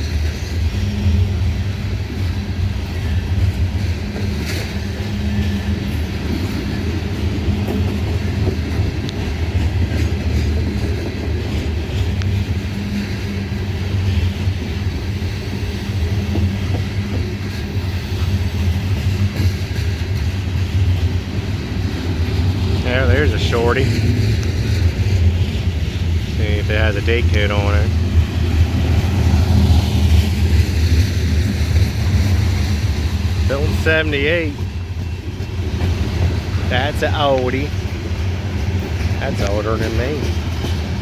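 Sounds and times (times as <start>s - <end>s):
train rumbling past: 0.0s - 41.0s
train wheels clicking: 0.0s - 41.0s.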